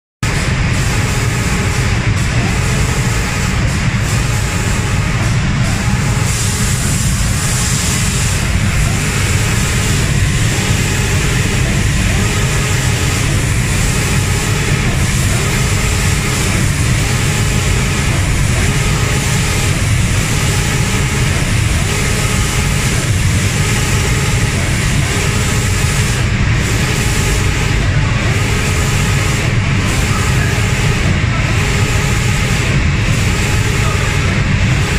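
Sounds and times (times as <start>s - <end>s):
spray-gun air rushing: 0.2s - 34.9s.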